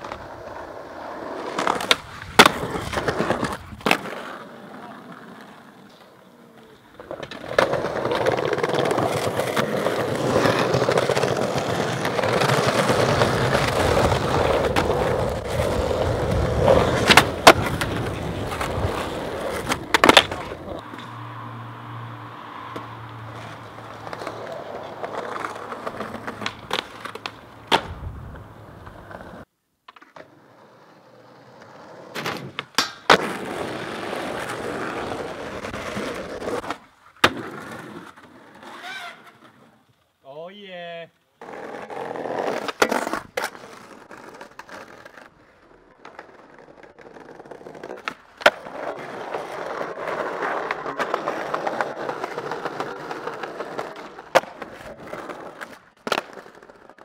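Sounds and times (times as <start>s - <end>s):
skateboard clacking: 0.0s - 21.2s, 22.7s - 30.5s, 31.3s - 39.3s, 41.4s - 57.0s
skateboard wheels rolling on asphalt: 0.0s - 57.0s.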